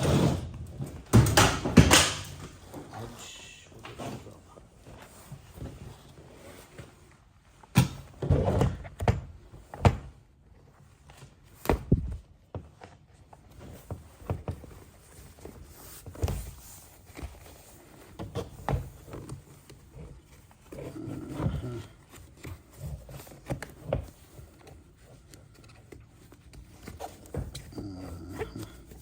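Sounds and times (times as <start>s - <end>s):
rustling and handling noise: 0.0s - 29.0s.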